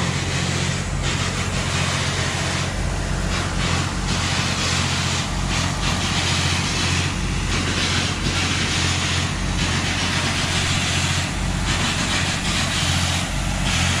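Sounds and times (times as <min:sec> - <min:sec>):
large diesel engine droning: 0:00.0 - 0:14.0
rush of air: 0:00.0 - 0:14.0.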